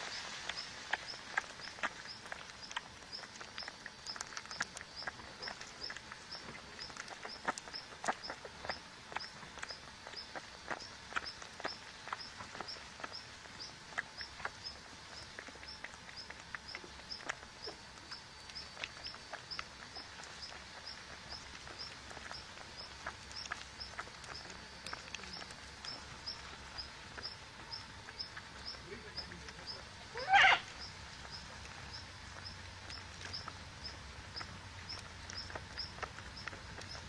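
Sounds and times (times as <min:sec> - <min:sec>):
small bird chirping: 0:00.0 - 0:37.0.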